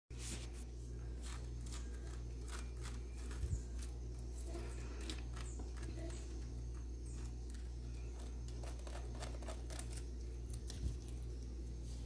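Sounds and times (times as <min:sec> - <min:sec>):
steady low hum: 0:00.1 - 0:12.0
hand rustling pineapple skin: 0:00.2 - 0:12.0.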